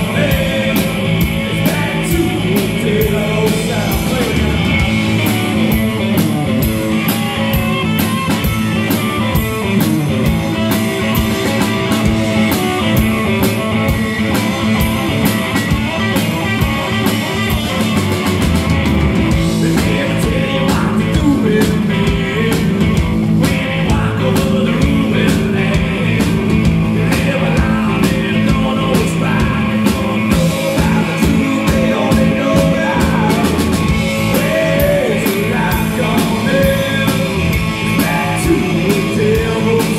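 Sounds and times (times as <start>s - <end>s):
drums keeping a steady beat: 0.0s - 39.9s
rock band playing: 0.0s - 39.9s.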